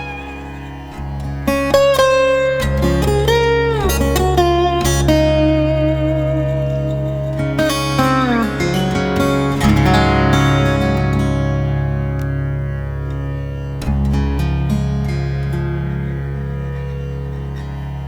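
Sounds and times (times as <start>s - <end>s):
guitar music: 0.0s - 18.0s
sustained bass notes: 0.0s - 18.0s.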